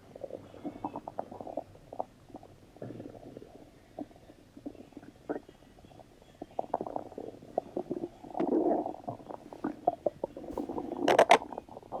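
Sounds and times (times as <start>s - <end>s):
stomach rumbling gurgles: 0.0s - 12.0s.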